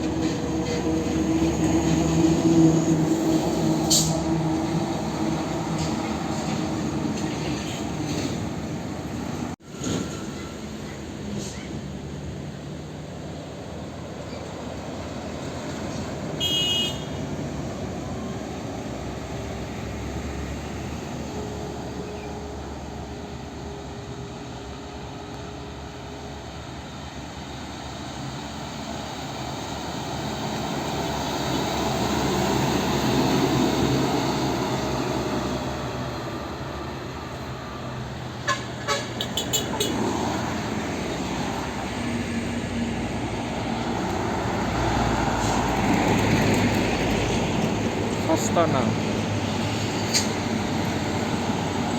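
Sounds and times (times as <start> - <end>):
diesel trucks passing: 0.0 - 51.9.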